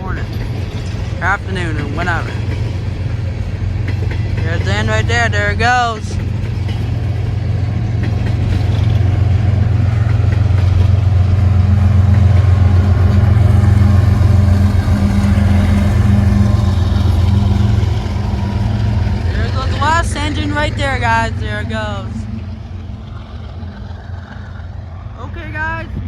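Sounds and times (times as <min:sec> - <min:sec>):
diesel locomotives droning: 0:00.0 - 0:26.0.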